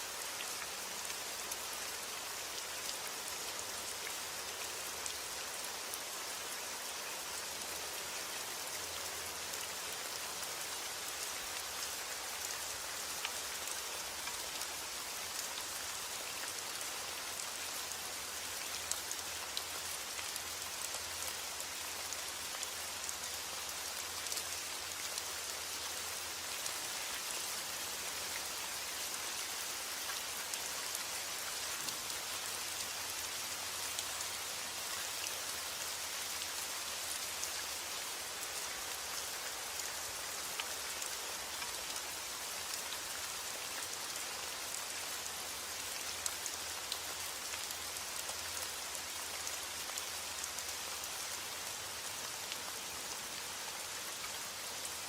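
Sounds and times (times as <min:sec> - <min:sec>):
heavy rain on a roof: 0:00.0 - 0:55.0.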